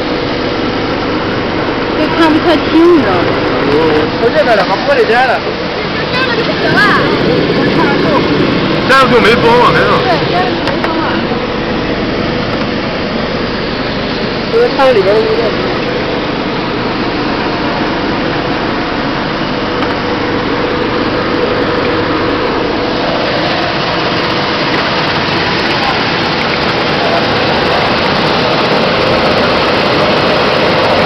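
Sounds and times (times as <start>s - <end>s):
seed cleaning machine rushing: 0.0s - 31.0s.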